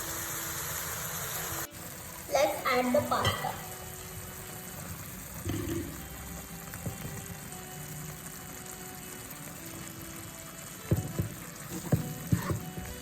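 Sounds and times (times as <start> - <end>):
quiet background music: 0.0 - 13.0
sauce bubbling in a pan: 0.0 - 13.0.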